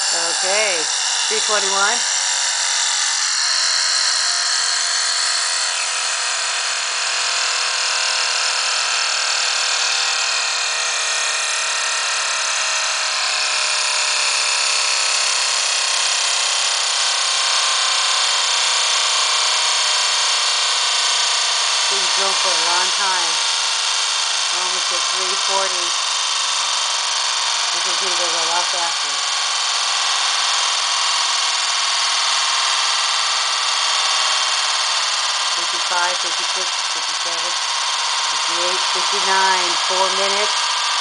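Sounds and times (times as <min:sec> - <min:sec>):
spinning steel balls whirring on glass: 0:00.0 - 0:41.0.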